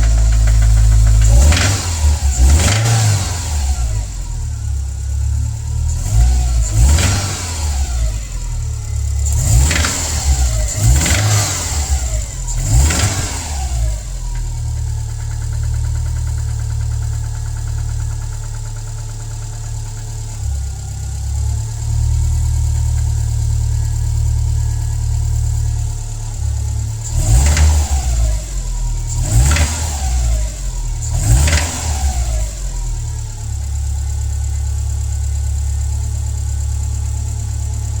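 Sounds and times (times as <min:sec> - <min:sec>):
car engine idling and revving: 0:00.0 - 0:38.0.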